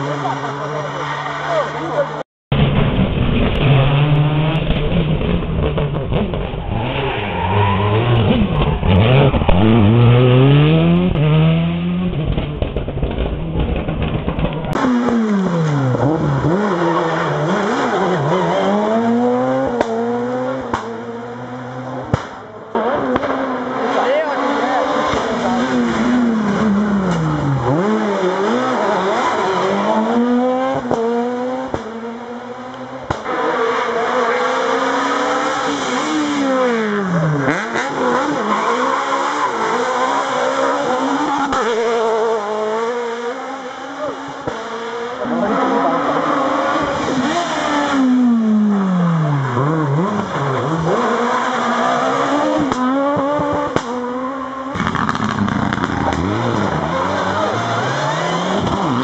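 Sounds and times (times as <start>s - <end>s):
rally cars passing at speed: 3.1s - 59.0s.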